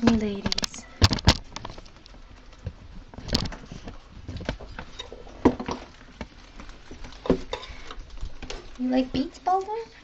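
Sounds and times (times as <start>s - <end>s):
guinea pigs scuffling in cage: 0.0s - 10.0s.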